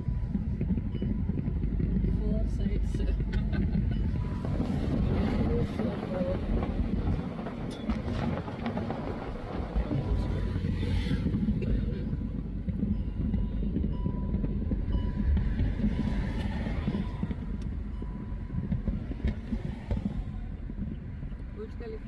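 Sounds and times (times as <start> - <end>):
car road rumble from inside: 0.0 - 22.0.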